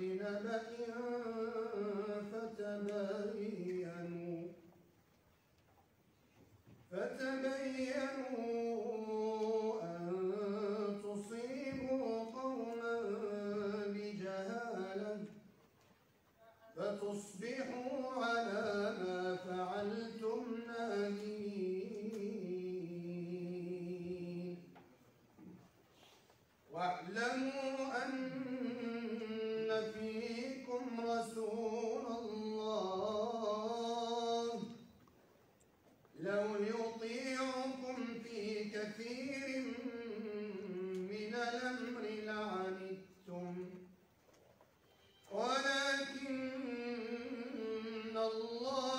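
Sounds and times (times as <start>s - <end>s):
man chanting melodically: 0.0s - 4.6s, 6.9s - 15.5s, 16.6s - 24.7s, 26.7s - 34.9s, 36.1s - 43.9s, 45.3s - 48.9s.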